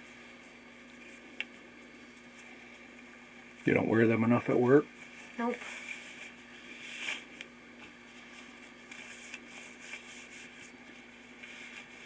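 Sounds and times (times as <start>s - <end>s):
faint steady hum: 0.0s - 12.0s
gloves rustling: 0.0s - 12.0s.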